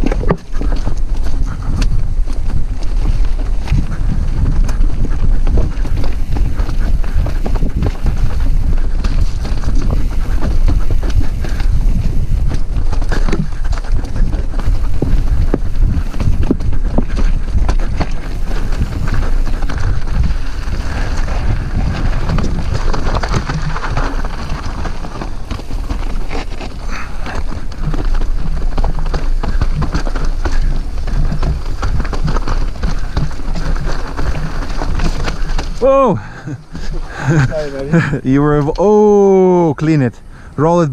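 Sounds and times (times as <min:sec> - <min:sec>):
wind on microphone: 0:00.0 - 0:38.8
bike rattling over stones: 0:00.0 - 0:40.9.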